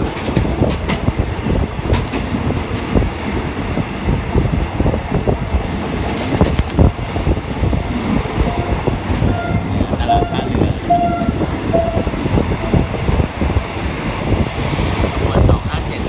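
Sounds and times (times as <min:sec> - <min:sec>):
train carriage rattling: 0:00.0 - 0:16.0
train wheels clattering over track: 0:00.0 - 0:16.0.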